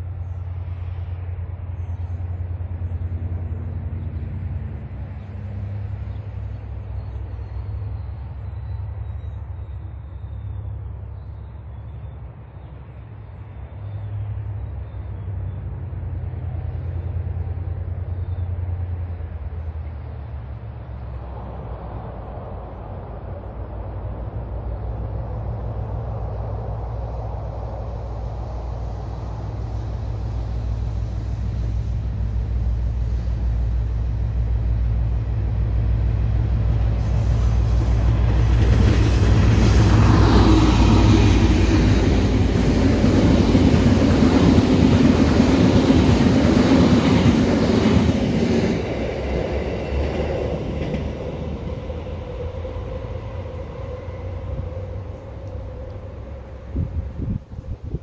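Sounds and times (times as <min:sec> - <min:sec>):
train passing rumble: 0:00.0 - 0:58.0.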